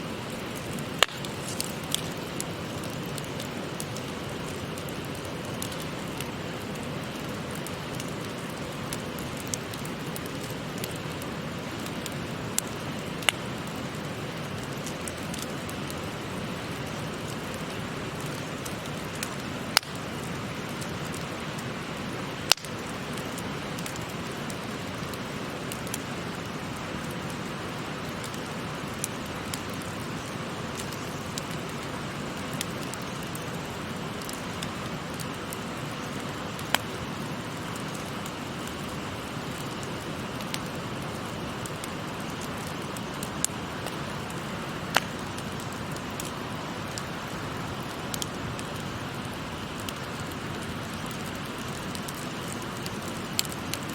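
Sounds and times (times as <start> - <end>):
wood fire crackling: 0.0 - 53.9
loud fire pops: 0.2 - 53.9.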